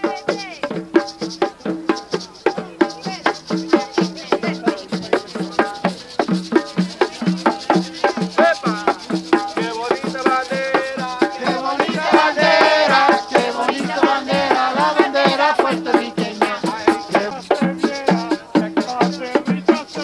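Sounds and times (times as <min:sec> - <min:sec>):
frame drums beaten: 0:00.0 - 0:20.0
group of voices singing: 0:03.7 - 0:20.0.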